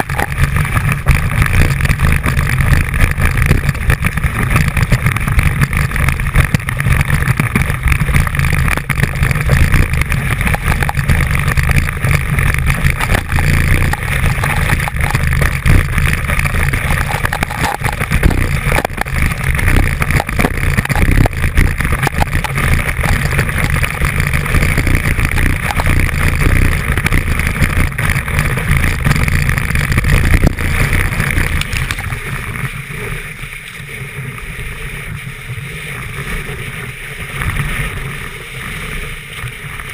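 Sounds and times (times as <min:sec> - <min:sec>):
rattling and clatter: 0:00.0 - 0:32.6
ski rushing through snow: 0:00.3 - 0:39.9.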